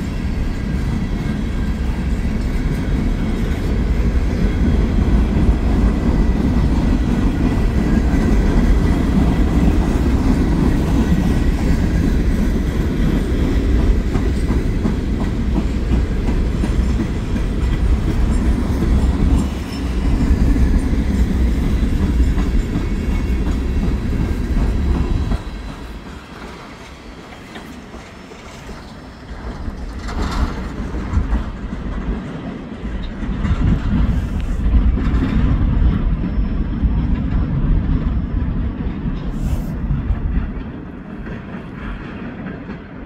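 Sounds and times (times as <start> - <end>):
train cars rumbling past: 0.0 - 43.0
wheels clacking over rail joints: 0.0 - 43.0.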